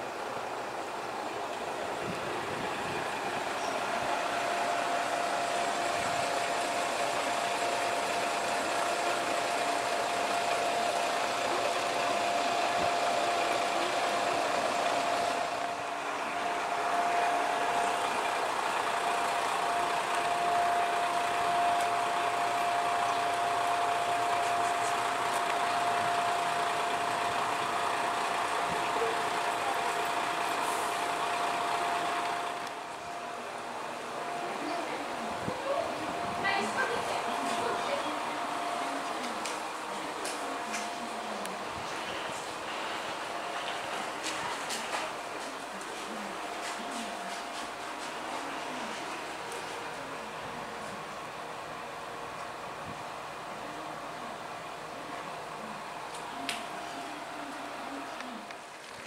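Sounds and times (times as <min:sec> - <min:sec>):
constant high whine: 0:00.0 - 0:59.0
diesel engine idling hum: 0:00.0 - 0:59.0.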